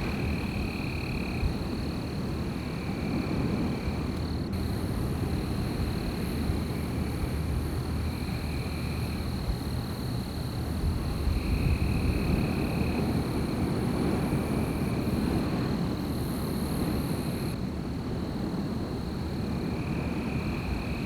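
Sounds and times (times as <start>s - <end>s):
wind rumbling: 0.0s - 21.0s.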